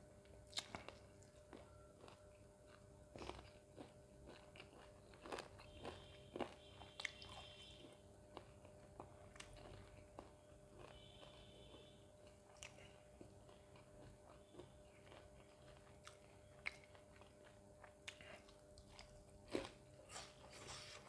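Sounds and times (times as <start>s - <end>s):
close-up chewing and biting: 0.5s - 21.0s.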